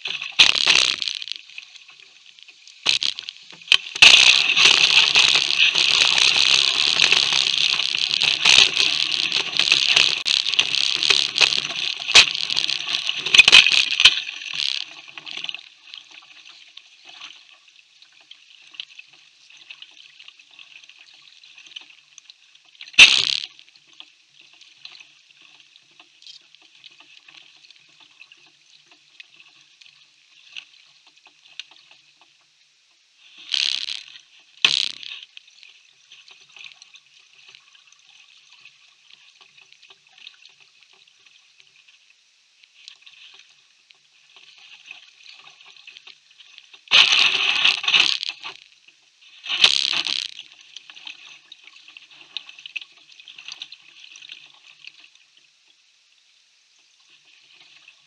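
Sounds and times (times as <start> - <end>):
water trickling and dripping: 0.0 - 49.3.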